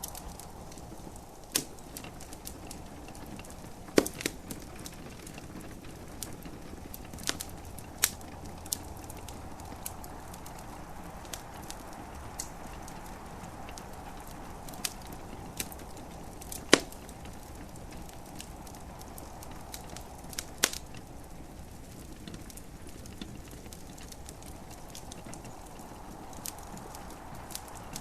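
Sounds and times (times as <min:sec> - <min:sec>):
gentle rain hissing: 0:00.0 - 0:28.0
sharp pops of burning wood: 0:00.0 - 0:28.0
wood fire crackling: 0:00.0 - 0:28.0.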